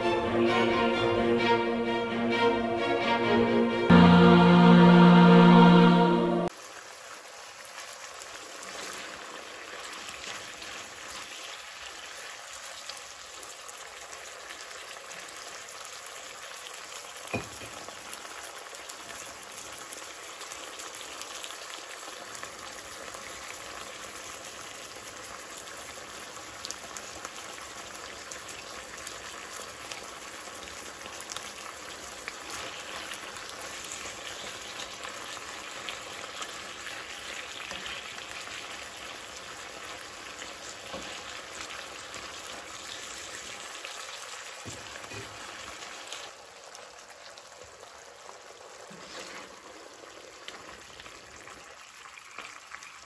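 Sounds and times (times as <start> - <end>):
meat sizzling in sauce: 6.5 - 53.0.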